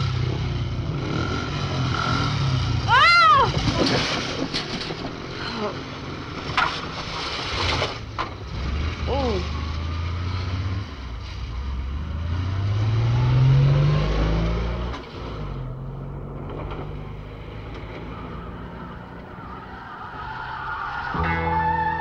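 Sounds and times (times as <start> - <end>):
vehicle engine revving: 0.0 - 4.5, 8.0 - 22.0.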